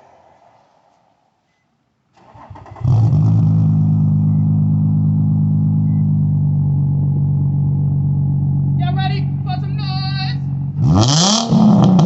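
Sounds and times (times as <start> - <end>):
car engine starting and idling: 2.1 - 12.0.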